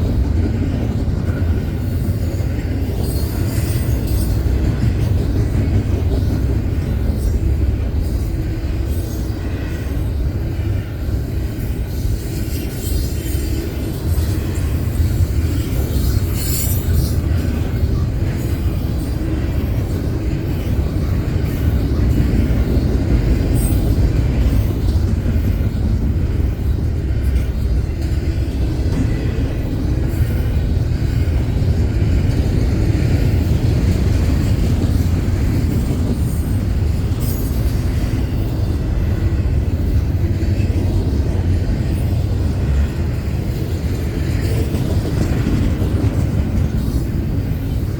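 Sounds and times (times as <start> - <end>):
train rumbling on rails: 0.0 - 47.9
train wheels clicking: 0.0 - 47.9.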